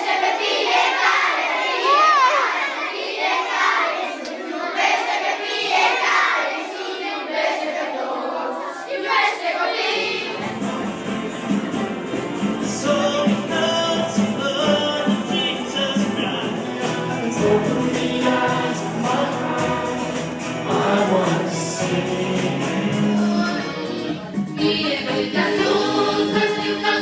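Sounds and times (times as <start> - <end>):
choir singing a worship song: 0.0 - 10.9, 12.6 - 27.0
children singing and calling out: 0.0 - 27.0.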